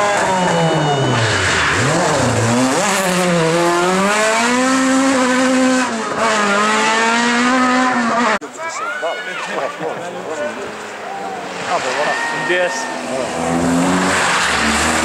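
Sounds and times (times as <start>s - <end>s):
rally car engine revving: 0.0s - 8.4s, 10.5s - 15.0s.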